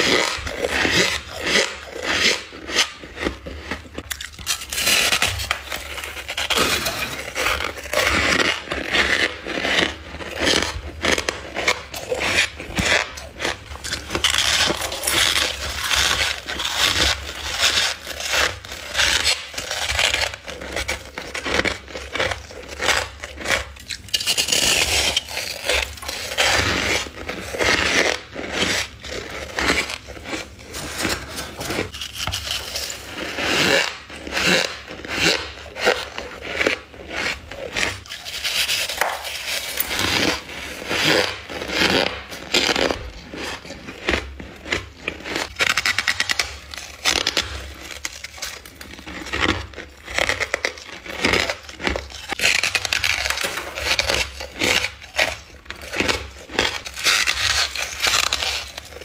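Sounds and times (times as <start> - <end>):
frost crunching between teeth: 0.0 - 59.0.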